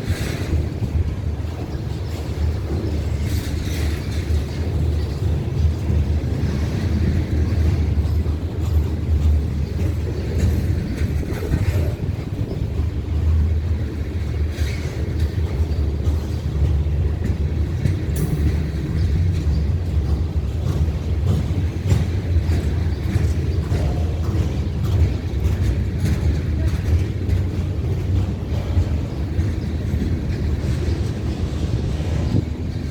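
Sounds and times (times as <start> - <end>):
freight train rumbling past: 0.0 - 32.9.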